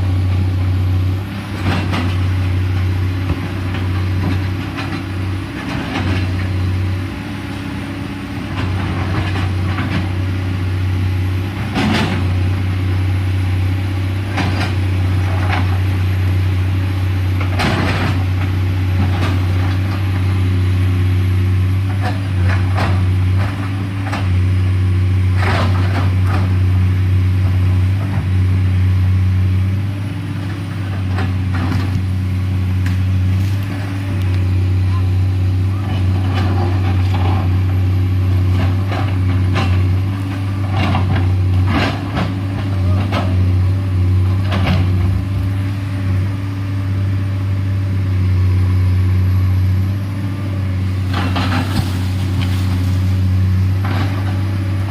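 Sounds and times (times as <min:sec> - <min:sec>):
excavator diesel engine under load: 0:00.0 - 0:54.9.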